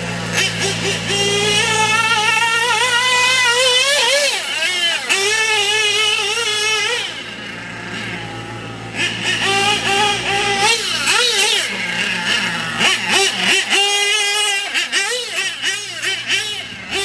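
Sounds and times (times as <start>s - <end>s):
model truck engine revving: 0.0s - 17.0s.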